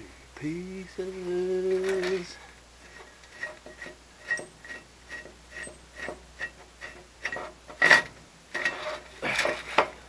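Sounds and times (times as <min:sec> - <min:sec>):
metal scraping clatter: 0:01.7 - 0:10.0.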